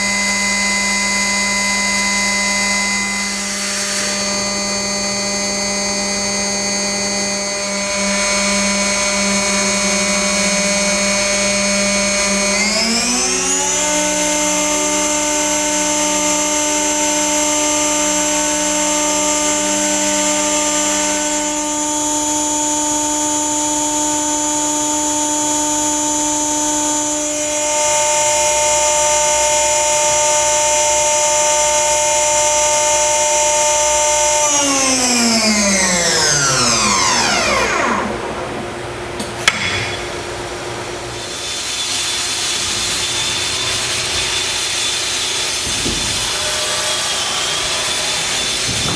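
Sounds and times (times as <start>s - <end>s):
router whining: 0.0s - 40.3s.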